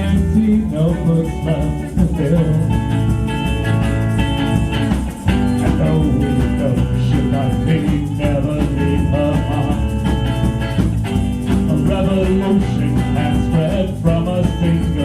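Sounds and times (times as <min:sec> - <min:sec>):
guitar: 0:00.0 - 0:15.0
live band playing: 0:00.0 - 0:15.0.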